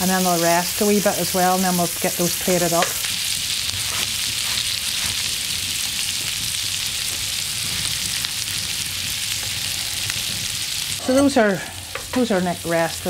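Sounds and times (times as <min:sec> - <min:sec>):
fish sizzling in a frying pan: 0:00.0 - 0:13.0.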